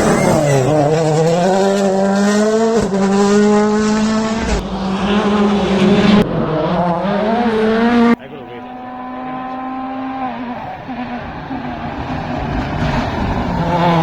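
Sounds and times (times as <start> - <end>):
rally car engine revving high: 0.0 - 14.0.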